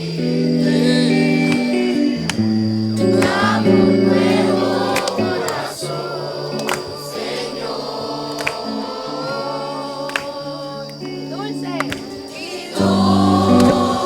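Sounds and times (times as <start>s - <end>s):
choir singing worship music: 0.0s - 14.0s.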